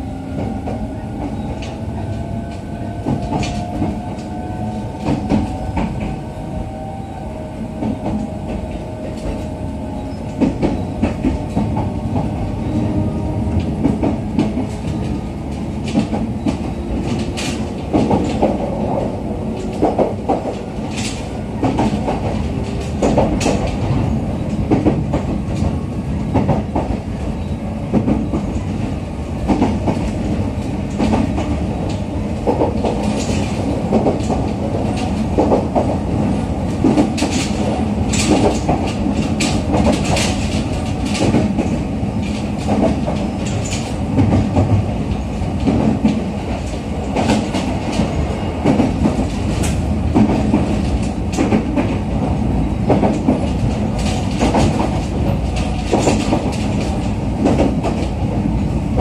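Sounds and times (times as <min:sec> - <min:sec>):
wheels rumbling on rail: 0:00.0 - 0:59.0
wheels clacking on track: 0:00.4 - 0:06.2, 0:07.8 - 0:59.0.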